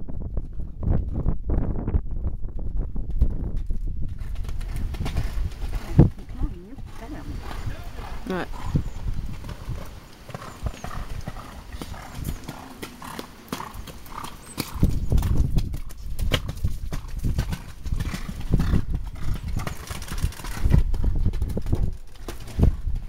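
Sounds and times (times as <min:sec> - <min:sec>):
horse hoofbeats on sand: 0:02.2 - 0:23.0.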